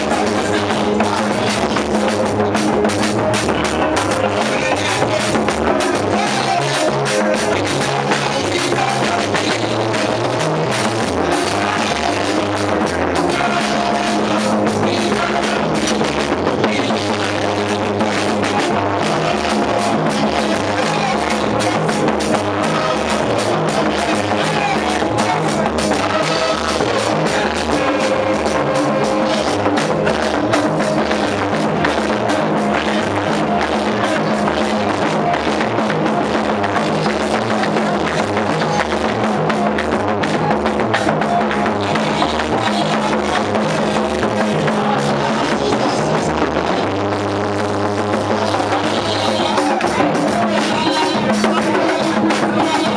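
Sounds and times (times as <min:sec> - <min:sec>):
bass line: 0:00.0 - 0:52.9
drums beat: 0:00.0 - 0:52.9
loud band music: 0:00.0 - 0:52.9.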